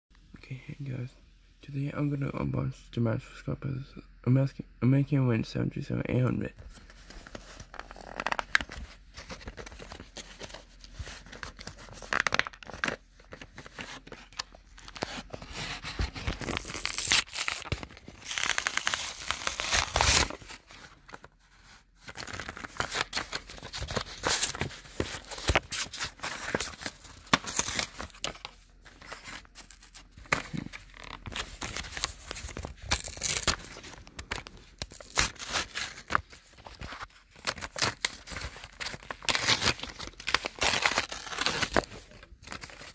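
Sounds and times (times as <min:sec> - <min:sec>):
packaging tearing and crinkling: 0:07.1 - 0:21.2, 0:22.0 - 0:42.9.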